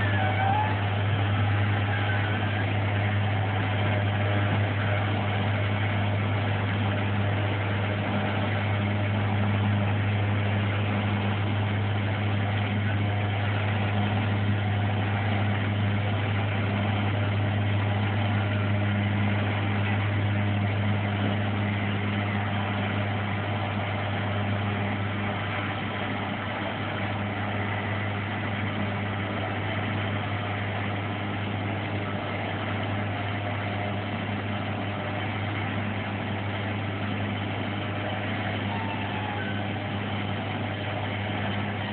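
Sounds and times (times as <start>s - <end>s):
pickup truck engine idling: 0.0s - 41.9s.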